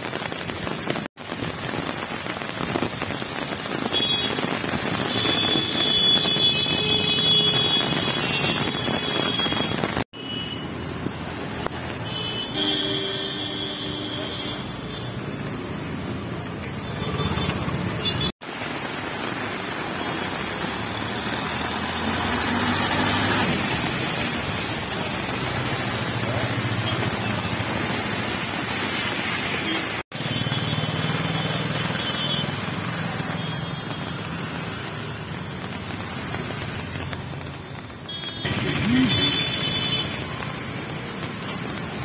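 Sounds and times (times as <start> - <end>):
tyres hissing on wet asphalt: 0.0 - 42.0
vehicles passing: 4.4 - 42.0.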